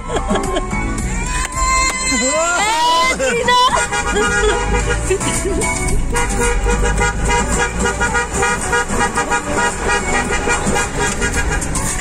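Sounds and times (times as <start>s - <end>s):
car engine and road noise: 0.0s - 12.0s
car horns honking: 0.0s - 12.0s.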